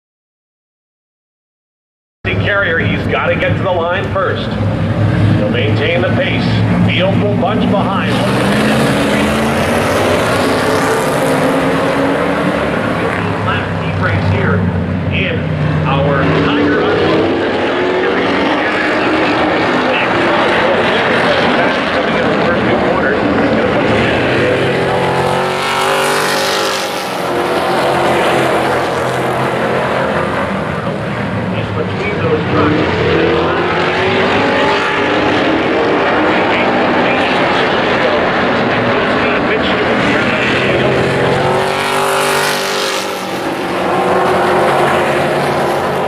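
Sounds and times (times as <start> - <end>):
race truck engines running hard: 2.3 - 46.0.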